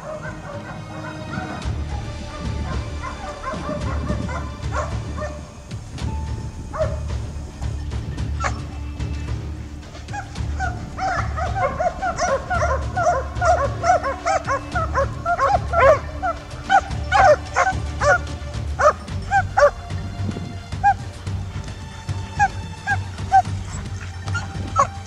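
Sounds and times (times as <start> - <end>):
dogs baying and yelping: 0.0 - 5.6, 6.2 - 8.8, 9.9 - 19.8, 20.8 - 25.0
background music: 0.0 - 25.0.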